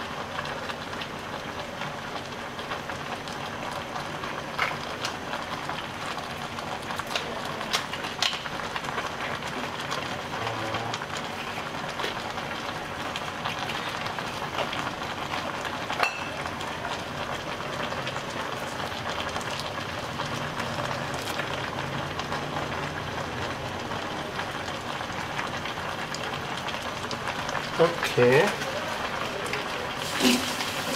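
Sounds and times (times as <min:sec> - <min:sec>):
pot of food cooking hiss: 0:00.0 - 0:30.9.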